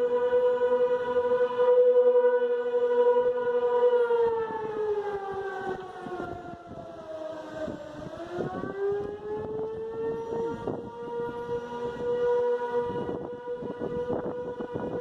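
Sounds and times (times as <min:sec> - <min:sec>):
tornado warning siren wailing: 0:00.0 - 0:15.0.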